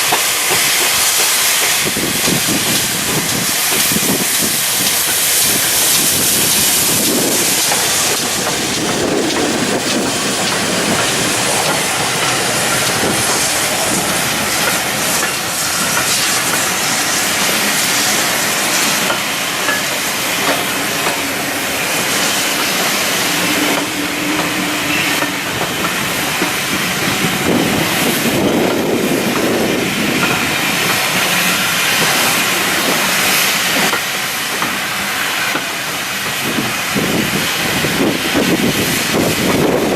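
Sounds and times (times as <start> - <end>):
rail noise: 0.0 - 39.9
steam locomotive hissing: 0.0 - 39.9.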